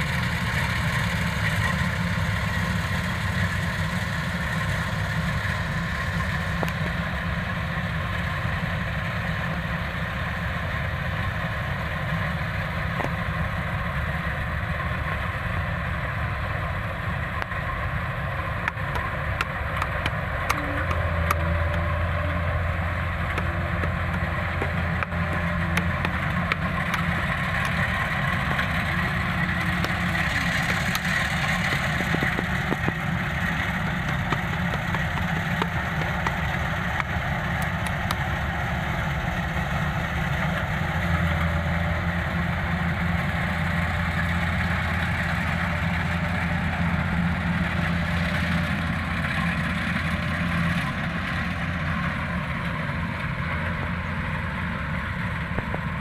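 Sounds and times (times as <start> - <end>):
combine harvester engine droning: 0.0 - 56.0.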